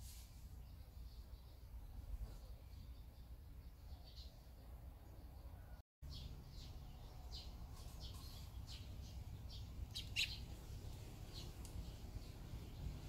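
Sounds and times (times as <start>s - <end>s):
swallows chirping: 0.5s - 13.0s.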